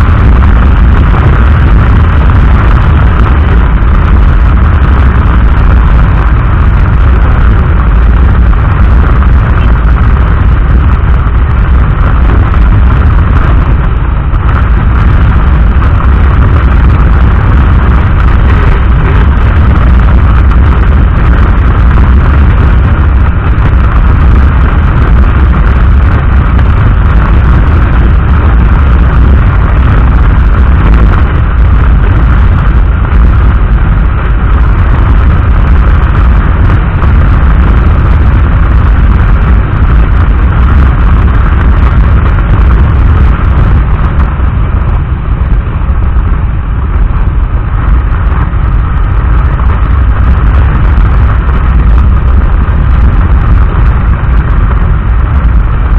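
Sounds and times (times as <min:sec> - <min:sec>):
motorcycle engine: 0:00.0 - 0:45.8
road rumble: 0:00.0 - 0:55.9
wind buffeting microphone: 0:00.0 - 0:55.9.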